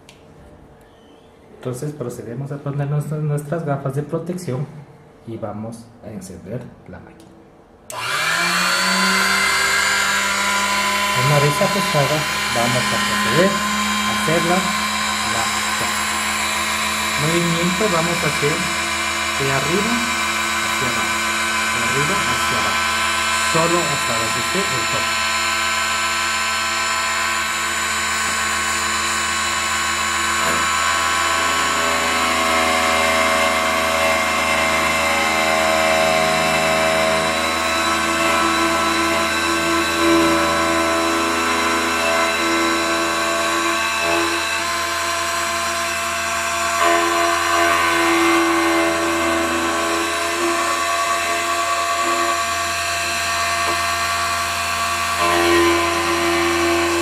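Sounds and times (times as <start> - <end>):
key cutting machine running: 7.9 - 57.0.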